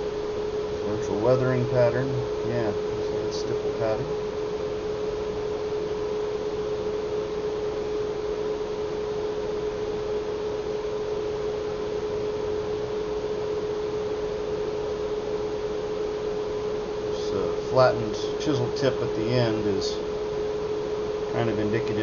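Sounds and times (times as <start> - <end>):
constant mid-pitched hum: 0.0 - 22.0.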